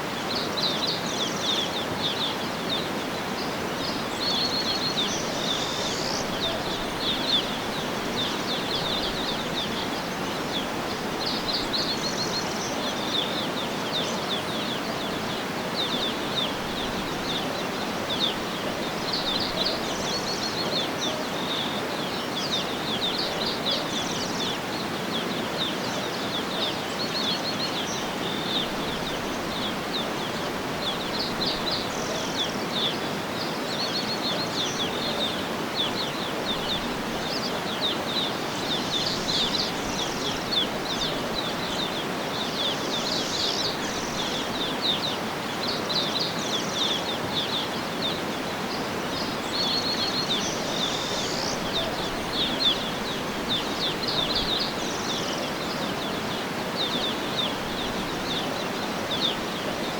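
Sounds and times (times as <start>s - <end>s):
rushing outdoor background hiss: 0.0s - 59.9s
birds chirping and trilling: 0.3s - 59.9s.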